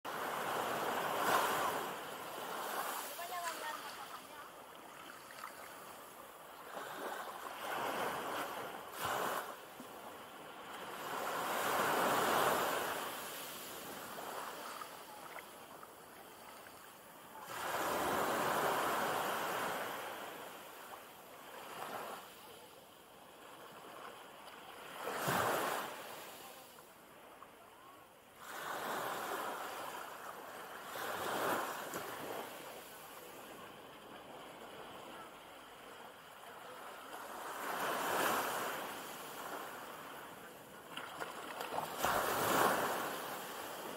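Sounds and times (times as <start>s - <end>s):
small waves breaking on beach: 0.1s - 43.9s.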